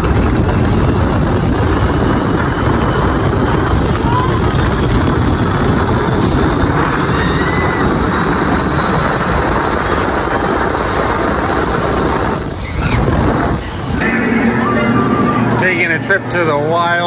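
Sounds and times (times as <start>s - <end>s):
ride vehicle rumbling on track: 0.0s - 17.0s
wind rush over microphone: 0.0s - 17.0s.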